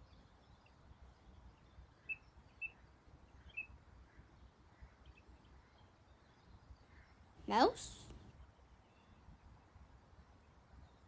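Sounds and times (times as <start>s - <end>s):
faint low outdoor rumble: 0.0s - 11.0s.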